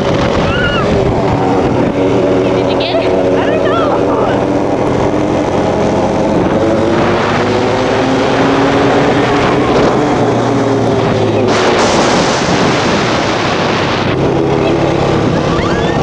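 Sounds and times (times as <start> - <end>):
quad bike engine running: 0.0 - 16.0
wind on microphone: 0.0 - 16.0.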